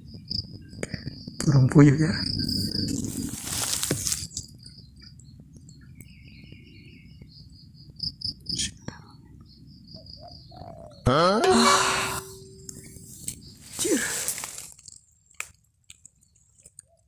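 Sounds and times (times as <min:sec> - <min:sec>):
insects trilling: 0:00.0 - 0:15.3.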